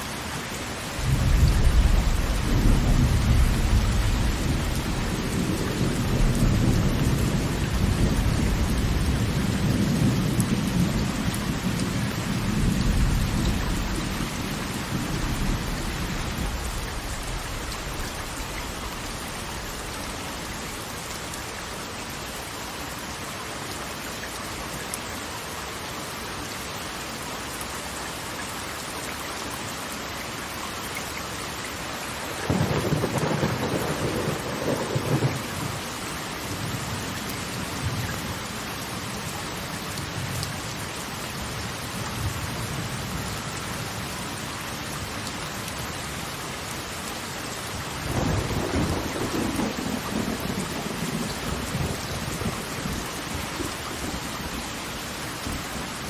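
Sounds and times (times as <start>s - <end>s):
falling water rushing: 0.0s - 56.0s.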